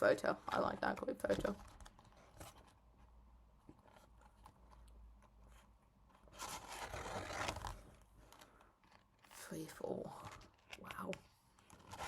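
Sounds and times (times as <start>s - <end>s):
page turning rustle: 0.6s - 2.8s, 3.7s - 12.0s
faint ticks of handling book: 0.6s - 12.0s.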